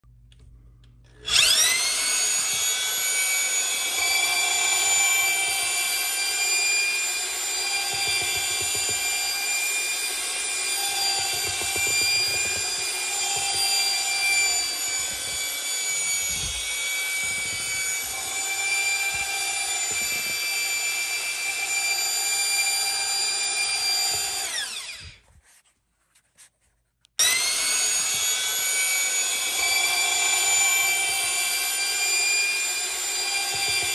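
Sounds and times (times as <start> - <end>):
paddle mixer stirring mud: 1.2 - 25.0, 27.2 - 33.9
drill motor whining: 1.2 - 25.2, 27.2 - 33.9.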